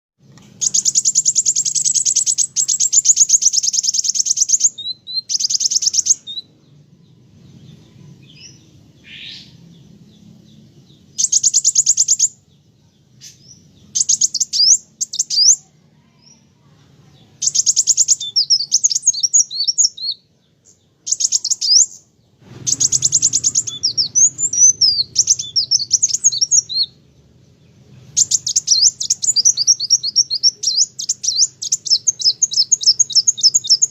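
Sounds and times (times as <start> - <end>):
sunbird trilling and twittering: 0.5 - 33.9.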